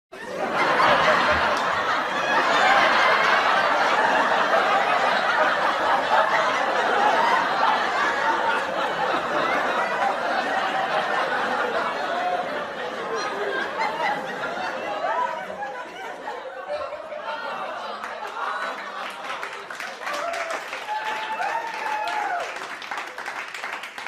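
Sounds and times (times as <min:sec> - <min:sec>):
studio audience laughing: 0:00.2 - 0:24.0.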